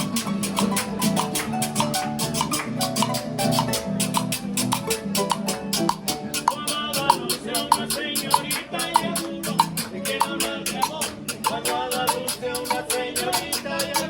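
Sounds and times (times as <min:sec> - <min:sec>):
guitar and harp music: 0:00.0 - 0:14.0
hand percussion: 0:00.0 - 0:14.0.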